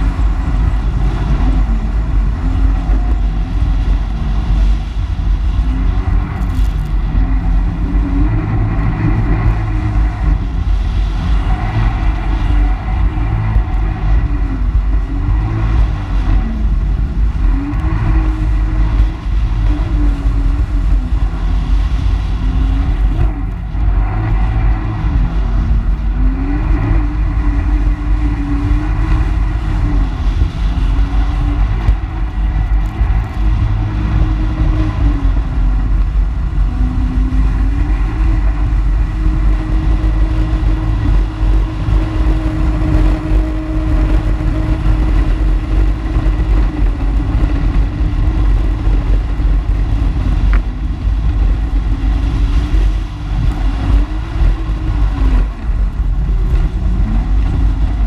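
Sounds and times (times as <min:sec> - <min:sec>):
water rushing: 0:00.0 - 0:58.0
watercraft engine running: 0:00.0 - 0:58.0.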